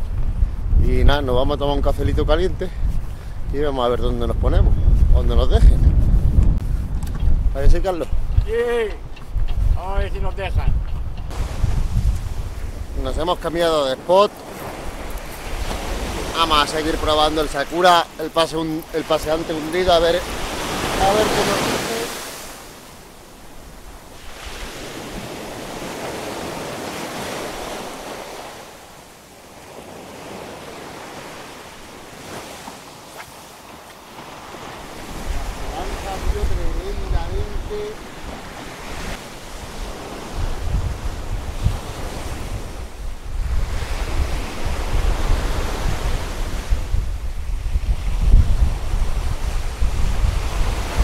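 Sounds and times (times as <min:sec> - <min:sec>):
sea waves breaking on shore: 0:00.0 - 0:10.6, 0:11.2 - 0:51.0
wind on microphone: 0:00.0 - 0:51.0.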